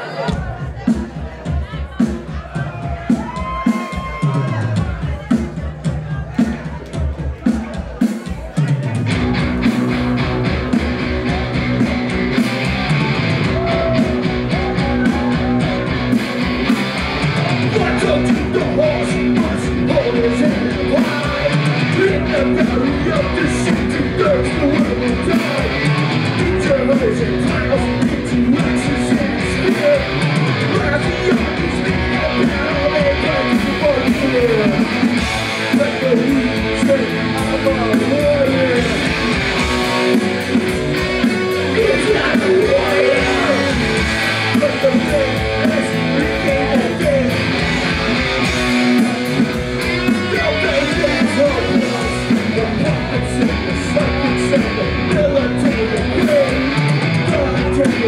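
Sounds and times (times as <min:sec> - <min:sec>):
punk rock band playing: 0:00.0 - 0:58.0
sliding electric guitar lines: 0:09.1 - 0:58.0.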